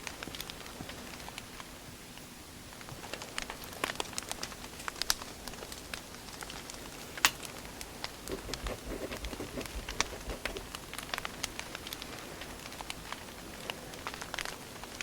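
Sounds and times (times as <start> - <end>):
hiss of burning logs: 0.0 - 15.0
wood fire crackling and popping: 0.0 - 15.0.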